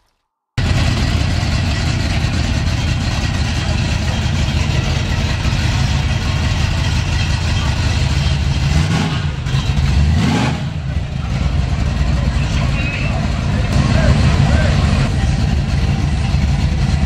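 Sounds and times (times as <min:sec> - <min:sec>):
car engine running at low speed: 0:00.6 - 0:17.0.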